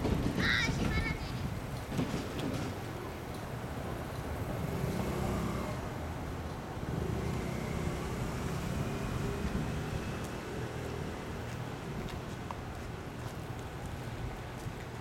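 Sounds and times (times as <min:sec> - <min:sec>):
vehicle rumbling past: 0:01.9 - 0:14.6.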